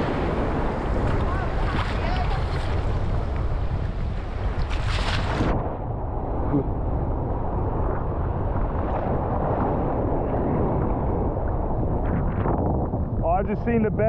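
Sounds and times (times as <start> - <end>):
muffled rush of surf: 0.0 - 14.0
wind on microphone: 0.0 - 14.0.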